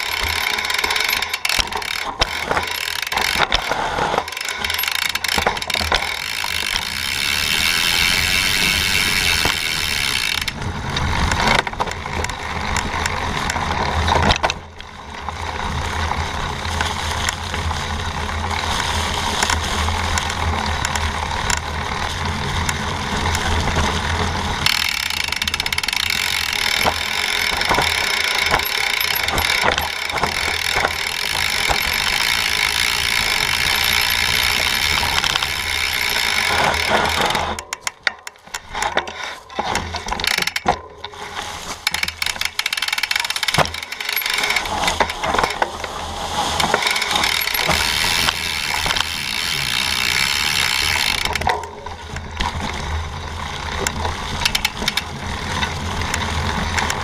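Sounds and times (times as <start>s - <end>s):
bike chain and frame rattling: 0.0s - 57.0s
bike tyres through dry leaves: 0.0s - 57.0s.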